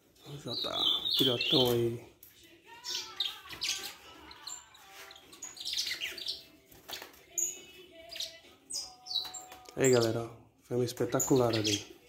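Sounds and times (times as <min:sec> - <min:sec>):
finch chirping and trilling: 0:00.0 - 0:12.0.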